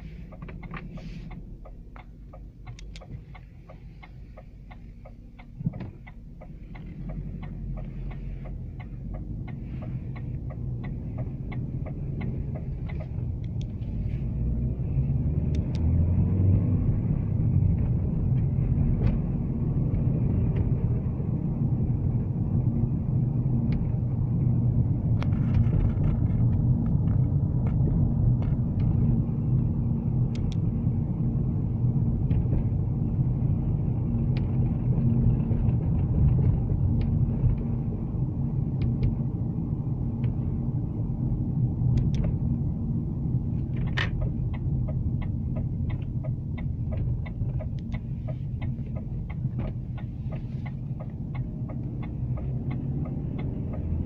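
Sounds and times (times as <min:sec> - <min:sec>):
engine and road rumble: 0:00.0 - 0:54.0
turn signal ticking: 0:00.0 - 0:54.0.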